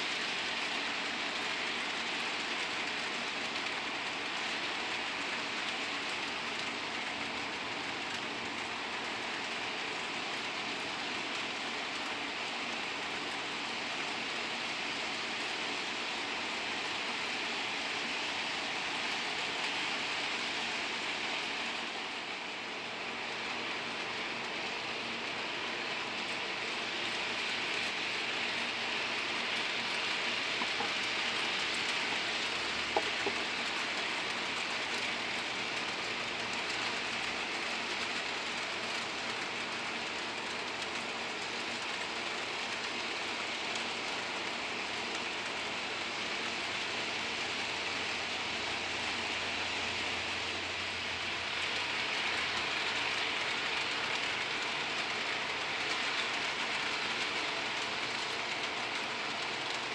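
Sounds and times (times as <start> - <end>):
model train motor whirring: 0.0 - 59.9.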